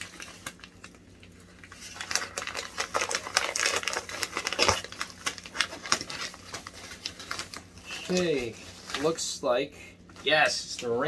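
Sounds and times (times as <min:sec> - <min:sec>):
shipping envelope tearing open: 0:00.0 - 0:09.2.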